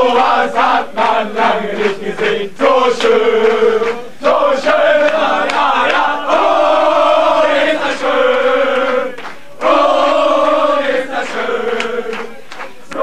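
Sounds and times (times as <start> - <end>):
men singing a chant: 0.0 - 13.0.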